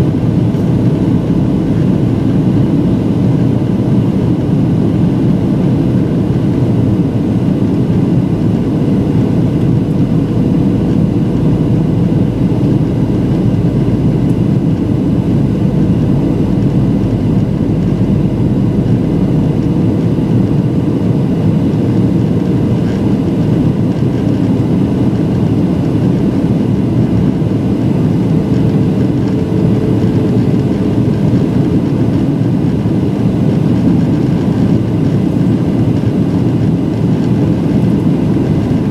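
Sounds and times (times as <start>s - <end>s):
aircraft cabin engine noise: 0.0s - 38.9s.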